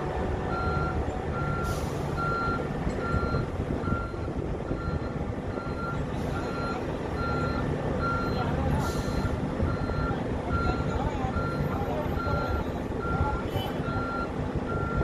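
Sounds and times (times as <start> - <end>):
heavy vehicle engine running: 0.0 - 15.0
reversing alarm beeping: 0.5 - 15.0.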